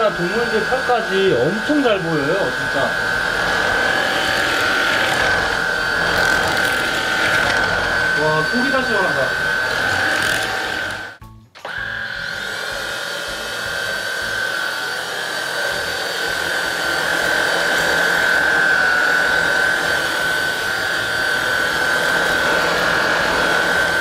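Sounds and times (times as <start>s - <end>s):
stick vacuum running: 0.0s - 24.0s.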